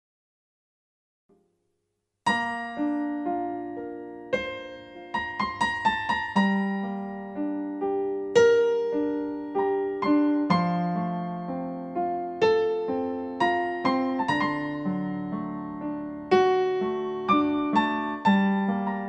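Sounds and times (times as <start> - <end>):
piano notes and chords: 2.3 - 19.0.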